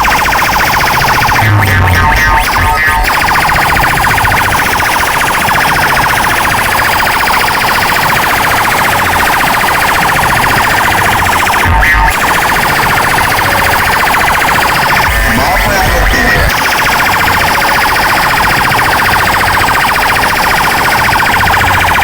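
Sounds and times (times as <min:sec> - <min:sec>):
warbling siren-like electronic tone: 0:00.0 - 0:22.0.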